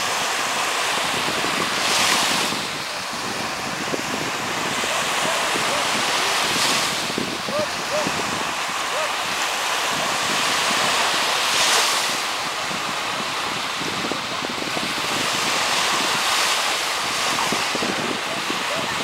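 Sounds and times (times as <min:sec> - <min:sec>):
small waves washing on beach: 0:00.0 - 0:19.0
wind on microphone: 0:00.0 - 0:19.0.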